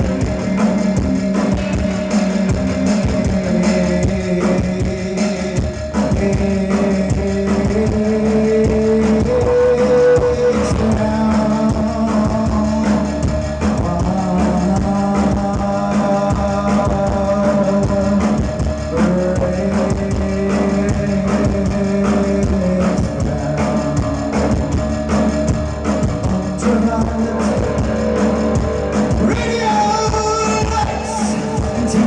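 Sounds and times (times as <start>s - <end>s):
steady drum beat: 0.0s - 32.0s
synth-pop rock band playing: 0.0s - 32.0s.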